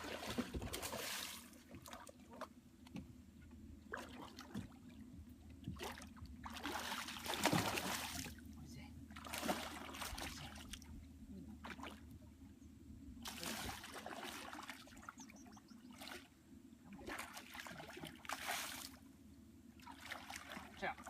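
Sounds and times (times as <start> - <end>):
water splashing and trickling: 0.0 - 2.6, 3.8 - 8.5, 9.1 - 12.2, 13.2 - 19.1, 19.8 - 21.0
low hum: 0.0 - 21.0.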